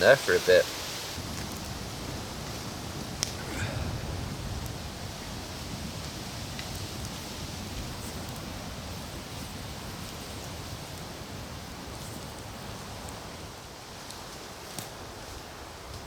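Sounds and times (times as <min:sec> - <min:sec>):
campfire crackling: 0:00.0 - 0:16.0
wind hiss: 0:00.0 - 0:16.0.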